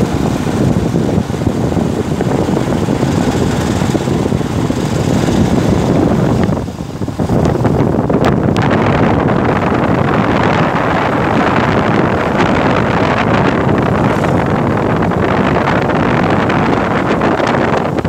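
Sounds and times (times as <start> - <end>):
road and vehicle noise: 0.0 - 18.0
wind buffeting microphone: 0.0 - 18.0.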